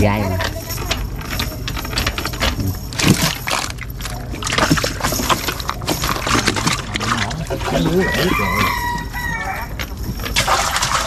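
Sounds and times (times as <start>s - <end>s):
steady low hum: 0.0s - 11.0s
knocks and rustling in boat: 0.3s - 11.0s.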